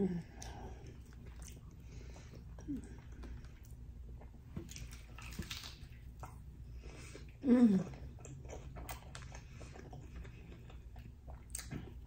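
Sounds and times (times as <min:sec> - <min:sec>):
chewing with crunches: 0:00.2 - 0:12.0.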